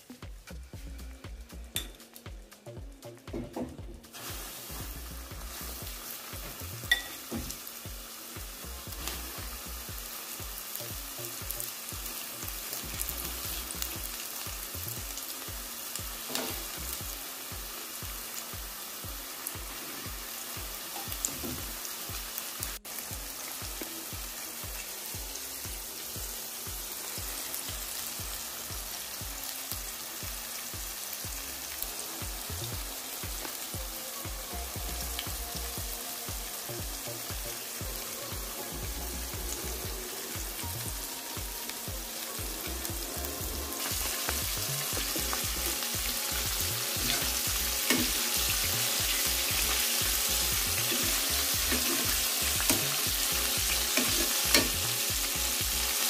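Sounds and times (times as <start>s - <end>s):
chicken frying in hot oil: 3.8s - 56.0s.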